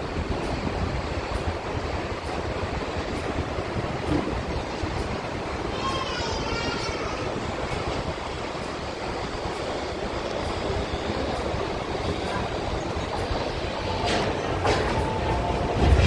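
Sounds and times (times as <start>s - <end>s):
train wheels and motors rumbling: 0.0s - 16.0s.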